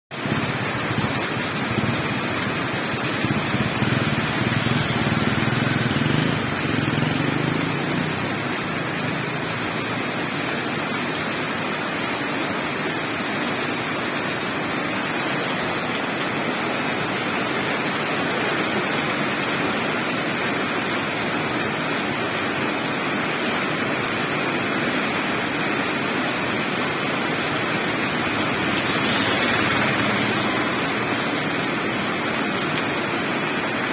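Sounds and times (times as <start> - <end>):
rushing falling water: 0.2 - 33.9.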